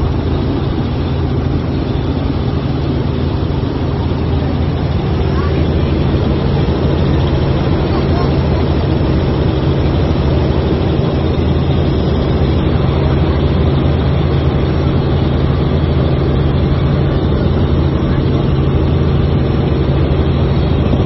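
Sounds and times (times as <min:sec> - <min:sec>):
helicopter engine and rotors droning: 0:00.0 - 0:21.0.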